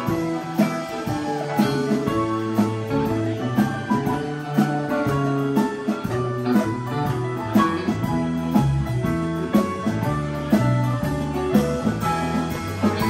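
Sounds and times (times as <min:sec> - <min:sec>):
live band playing slow instrumental: 0:00.0 - 0:13.0.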